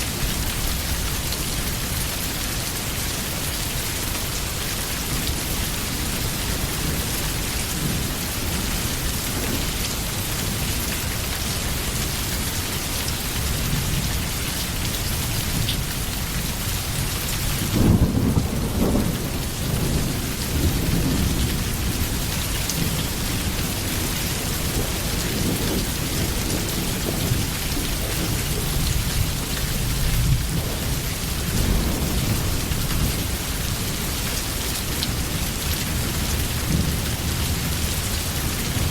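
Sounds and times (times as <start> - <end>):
steady rain falling: 0.0 - 38.9
low rumble of thunder: 3.9 - 12.2, 15.1 - 38.9.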